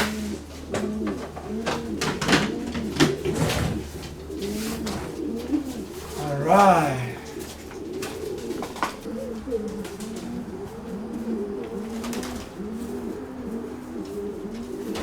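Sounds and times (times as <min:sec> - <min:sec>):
pigeons cooing: 0:00.0 - 0:06.2, 0:07.2 - 0:15.0.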